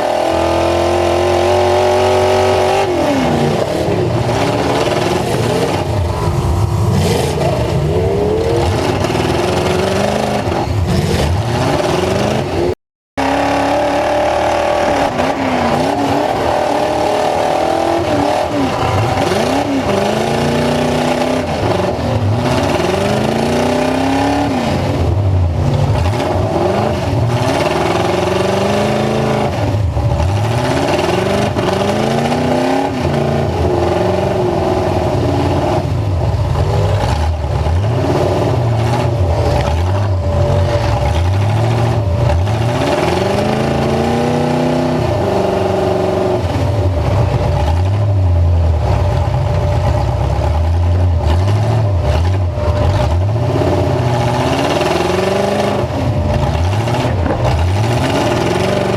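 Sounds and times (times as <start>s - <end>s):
truck engine revving: 0.0s - 58.9s.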